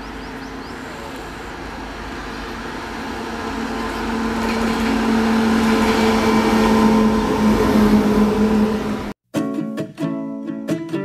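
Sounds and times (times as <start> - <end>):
locomotive hum: 0.0 - 9.2
train wheels rumbling on rails: 0.0 - 9.2.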